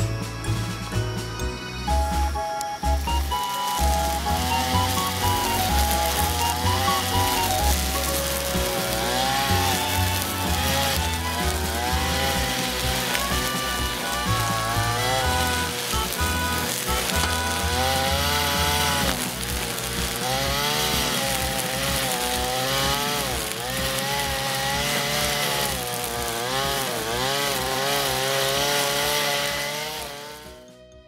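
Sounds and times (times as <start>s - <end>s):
background music with beat: 0.0s - 31.0s
brush cutter engine running: 1.9s - 30.7s.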